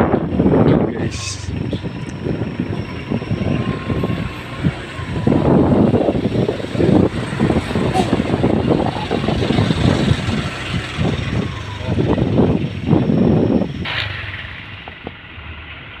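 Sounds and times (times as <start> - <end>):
engine rough low rumble: 0.0 - 16.0.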